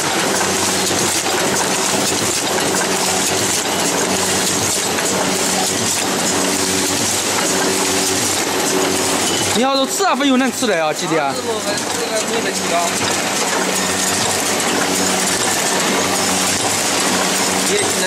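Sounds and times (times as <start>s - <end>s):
packing machine clattering: 0.0s - 18.0s
rapid clicking: 0.0s - 18.0s.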